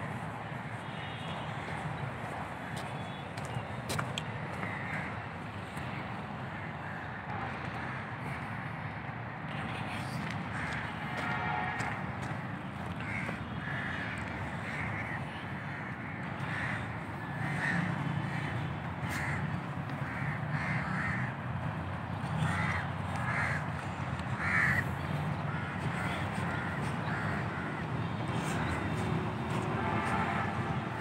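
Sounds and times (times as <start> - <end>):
crows cawing: 0.6 - 1.9, 2.5 - 9.5, 10.4 - 31.0.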